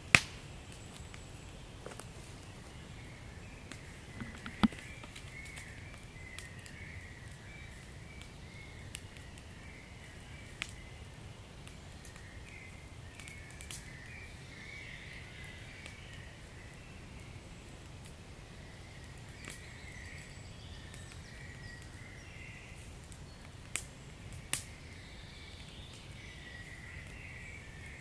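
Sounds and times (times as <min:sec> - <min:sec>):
wood fire crackling and popping: 0:00.0 - 0:02.8, 0:03.6 - 0:28.0.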